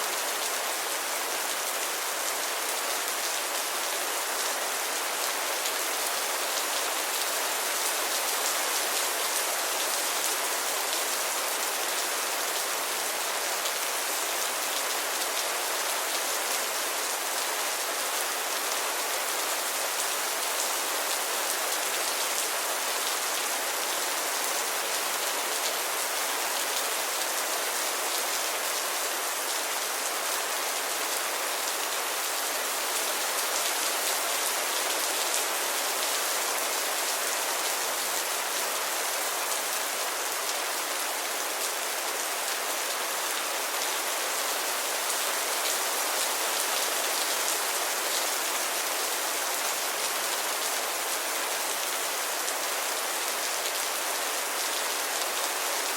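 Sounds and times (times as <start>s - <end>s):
steady rainfall: 0.0s - 55.9s.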